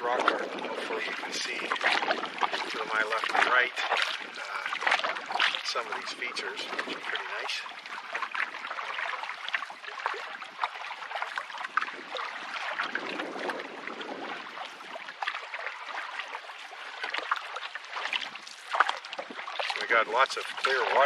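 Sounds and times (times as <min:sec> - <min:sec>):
paddle splashing in water: 0:00.0 - 0:21.0
water gurgling along hull: 0:00.0 - 0:21.0.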